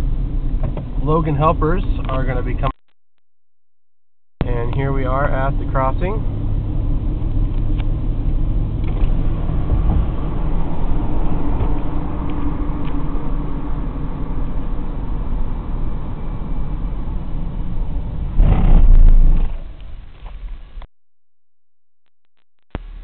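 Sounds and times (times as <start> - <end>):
car engine and road rumble: 0.0 - 2.8, 4.4 - 20.9.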